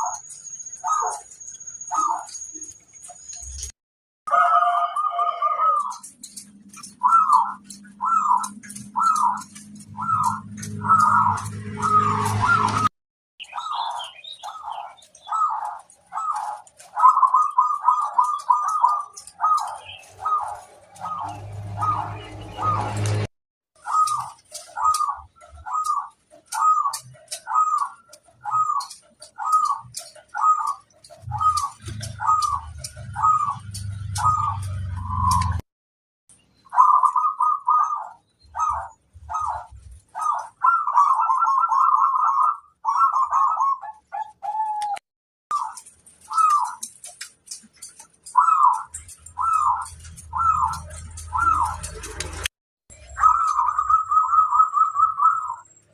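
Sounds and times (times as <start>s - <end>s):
dove cooing: 0.8s - 2.4s, 4.3s - 12.9s, 13.5s - 23.2s, 23.8s - 35.6s, 36.7s - 47.3s, 47.9s - 52.4s, 53.1s - 55.7s.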